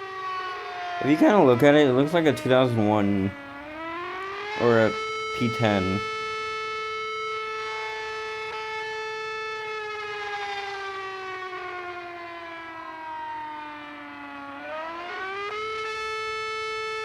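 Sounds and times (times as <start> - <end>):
rotating warning siren wailing: 0.0 - 17.0.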